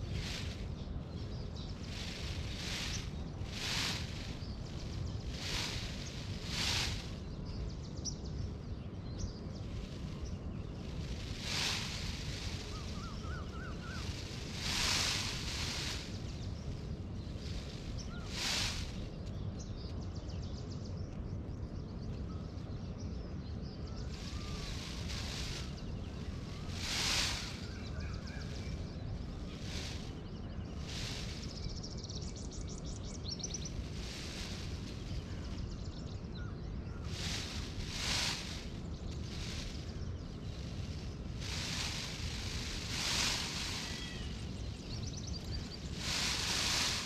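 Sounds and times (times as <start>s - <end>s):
hissing rustle: 0.0s - 20.2s, 23.8s - 47.0s
faint bird chirps: 0.0s - 47.0s
wind rumbling on microphone: 0.0s - 47.0s.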